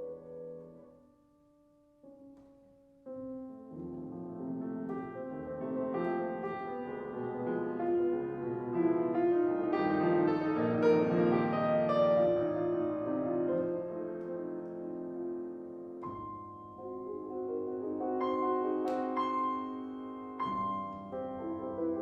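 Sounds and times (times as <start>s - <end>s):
classical piano music: 0.0s - 22.0s.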